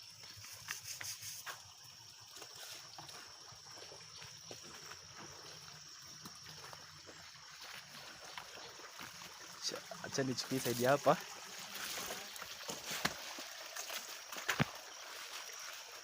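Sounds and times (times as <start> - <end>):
river water trickling: 0.0 - 16.0.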